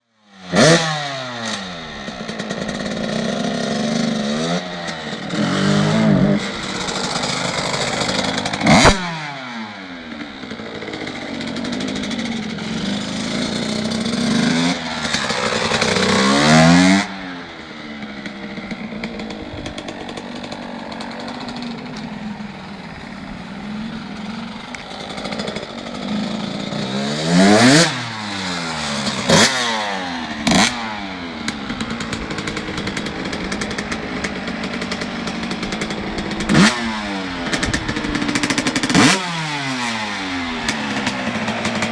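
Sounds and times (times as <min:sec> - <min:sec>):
two-stroke engine idling and revving: 0:00.0 - 0:41.9.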